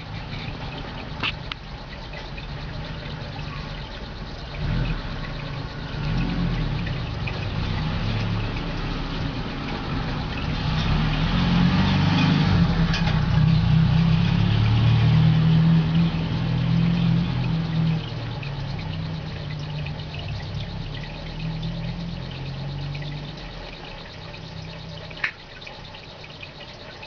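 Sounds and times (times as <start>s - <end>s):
low motor hum: 0.0s - 27.0s
water noise: 0.0s - 27.0s.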